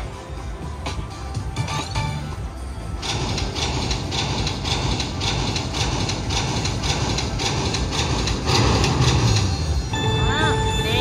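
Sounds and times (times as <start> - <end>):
slot machine rhythmic clacking: 0.0 - 11.0.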